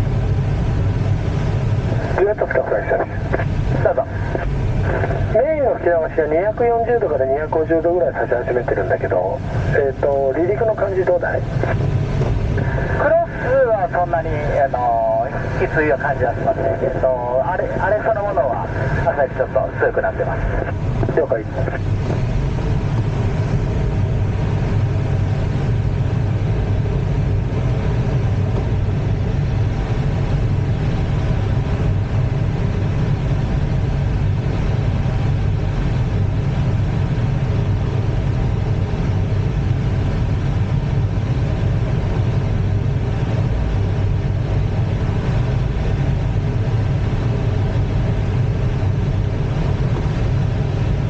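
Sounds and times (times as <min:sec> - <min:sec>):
airflow rumble in glider cockpit: 0:00.0 - 0:51.0.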